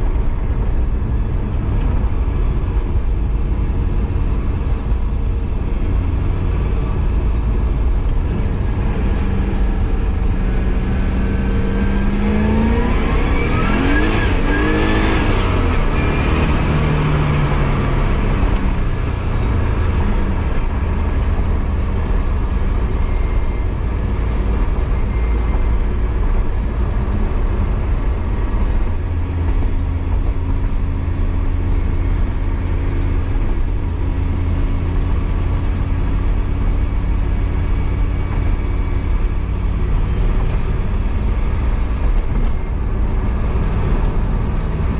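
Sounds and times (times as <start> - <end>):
car engine exhaust rumble: 0.0 - 44.9.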